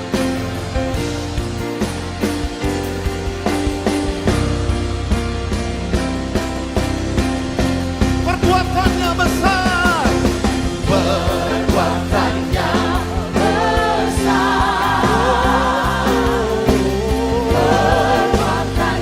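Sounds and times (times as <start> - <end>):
live worship band music: 0.0 - 19.0.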